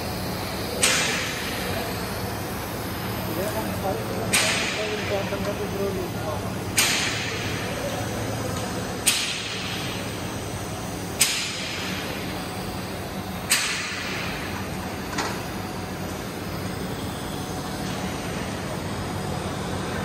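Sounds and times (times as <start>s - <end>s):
welding hum and hiss: 0.0s - 20.0s.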